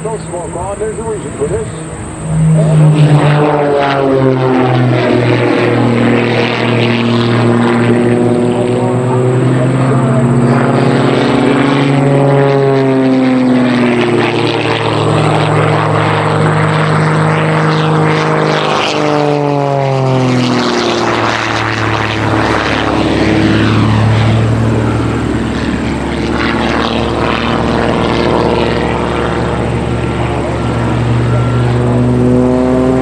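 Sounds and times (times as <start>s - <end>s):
propeller planes flying past: 0.0s - 33.0s.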